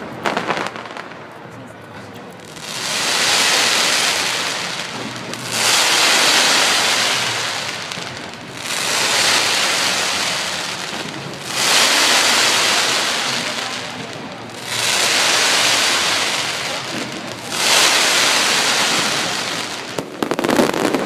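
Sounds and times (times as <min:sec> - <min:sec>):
crackling aerial fireworks: 0:00.0 - 0:21.0.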